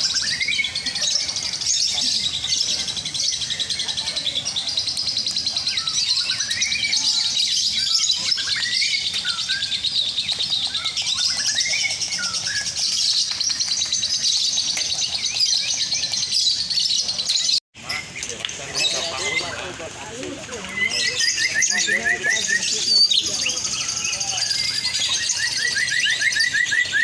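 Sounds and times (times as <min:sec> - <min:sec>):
lovebirds trilling chatter: 0:00.0 - 0:27.0.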